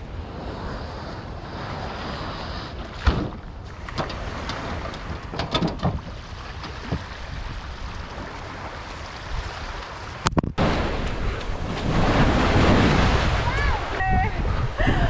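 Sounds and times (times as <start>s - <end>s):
small waves on sandy beach: 0.0s - 5.3s, 6.0s - 15.0s
wind on microphone: 0.0s - 15.0s.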